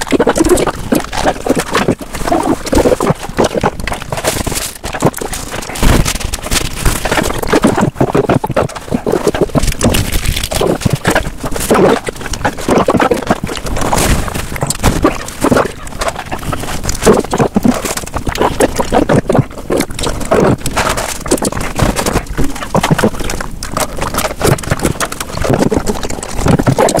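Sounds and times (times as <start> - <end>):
man chewing and sucking ice pop: 0.0 - 27.0.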